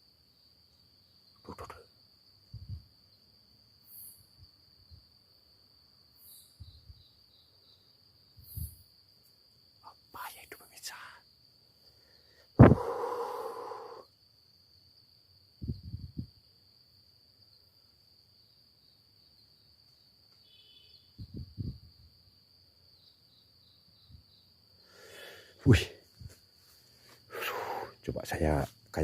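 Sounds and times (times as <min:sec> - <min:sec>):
crickets trilling: 0:00.0 - 0:29.0.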